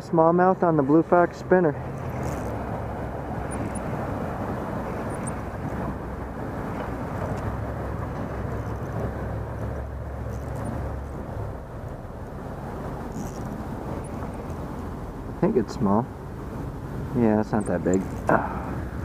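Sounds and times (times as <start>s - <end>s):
low roar of outdoor noise: 0.0s - 19.0s.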